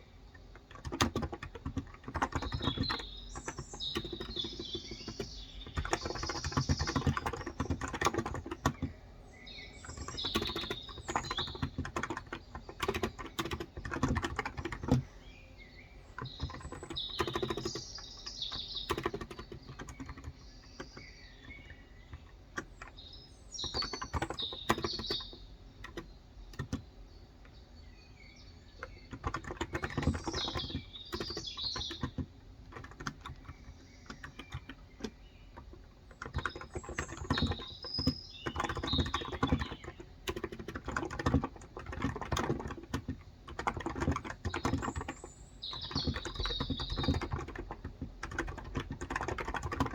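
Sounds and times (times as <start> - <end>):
birds chirping: 0.0 - 49.9
keyboard key clicks: 0.4 - 9.0, 9.8 - 15.1, 16.1 - 27.6, 28.8 - 49.9.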